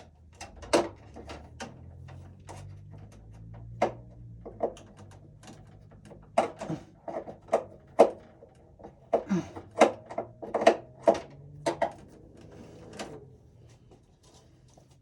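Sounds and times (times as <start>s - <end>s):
clicks and knocks on wiring: 0.0s - 15.0s.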